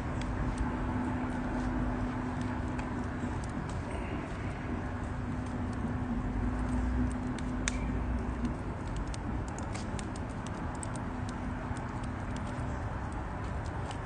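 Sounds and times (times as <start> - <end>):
campfire crackling and popping: 0.0 - 14.0
low rush of burning fire: 0.0 - 14.0.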